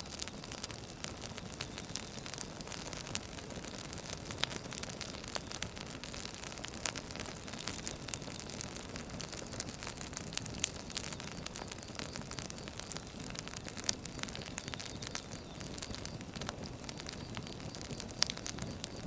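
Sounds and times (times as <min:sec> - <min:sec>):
fire steady hiss: 0:00.0 - 0:19.0
firewood crackling and popping: 0:00.0 - 0:19.0.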